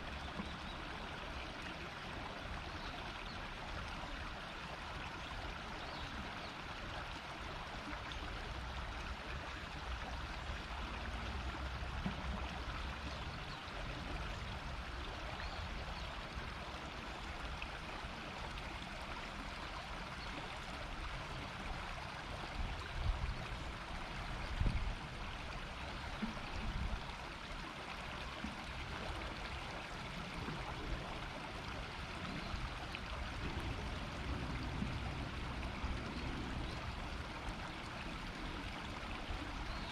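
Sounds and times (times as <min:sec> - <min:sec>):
river flowing over shallows: 0:00.0 - 0:39.9.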